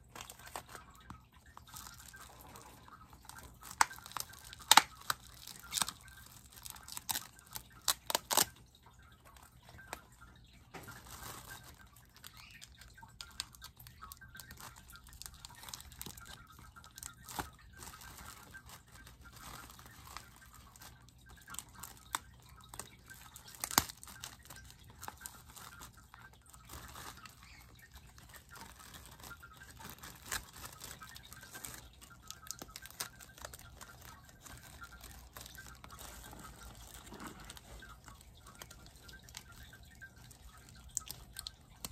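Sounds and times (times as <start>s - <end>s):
plastic wrapping crinkling: 0.0s - 41.9s
sharp plastic crackles: 0.0s - 41.9s.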